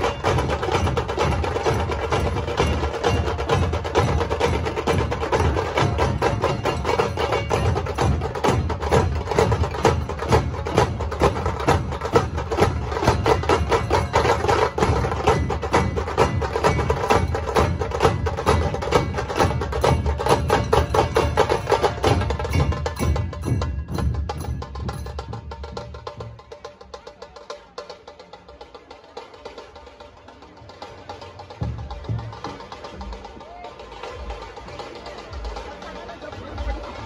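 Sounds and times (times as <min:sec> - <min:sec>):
barrel drums beaten in rhythm: 0:00.0 - 0:37.0.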